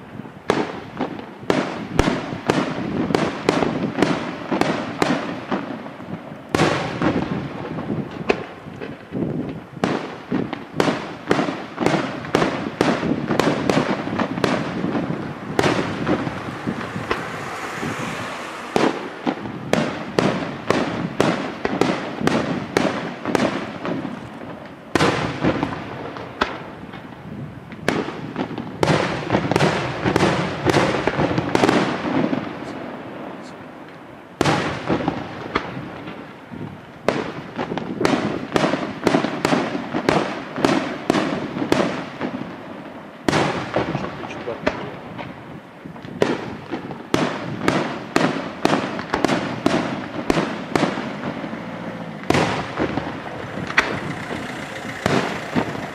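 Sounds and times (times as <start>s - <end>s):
firework crackle and hiss: 0.0s - 55.9s
firework shells bursting: 0.5s - 42.6s, 43.2s - 55.9s.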